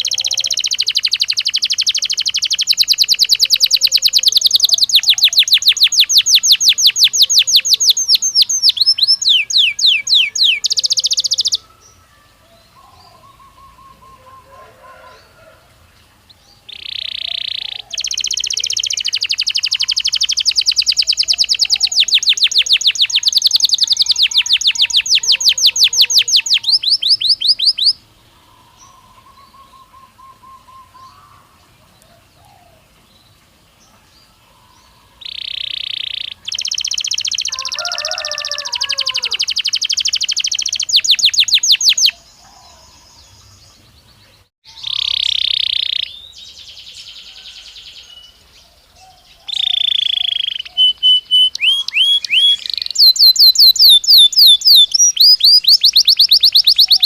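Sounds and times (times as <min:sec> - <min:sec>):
faint bird chirps: 0:00.0 - 0:15.5, 0:16.2 - 0:57.0
canary singing trills: 0:00.0 - 0:57.0.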